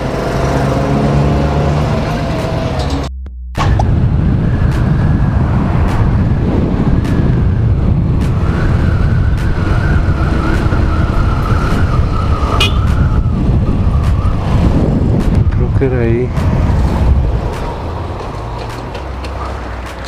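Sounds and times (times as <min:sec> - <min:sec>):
wind rush on microphone: 0:03.6 - 0:19.8.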